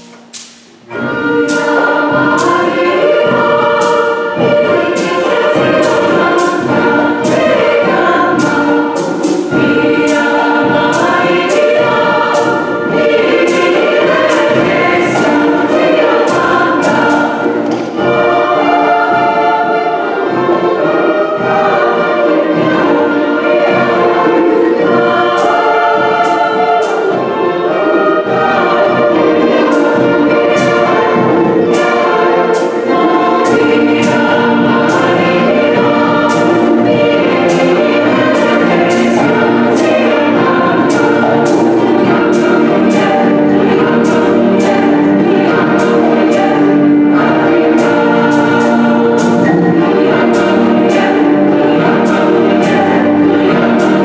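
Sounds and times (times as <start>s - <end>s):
large choir singing: 0.0s - 54.0s
orchestra strings and winds: 0.0s - 54.0s
percussion strokes: 0.0s - 54.0s.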